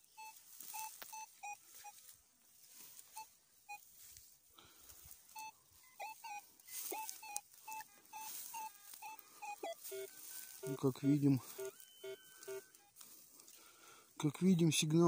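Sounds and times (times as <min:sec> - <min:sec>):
metal detector beeps: 0:00.0 - 0:02.1, 0:02.8 - 0:13.2.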